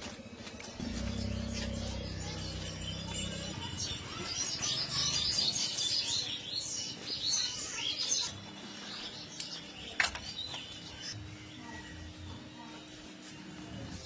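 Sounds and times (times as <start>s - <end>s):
small birds chirping: 0.6s - 12.1s.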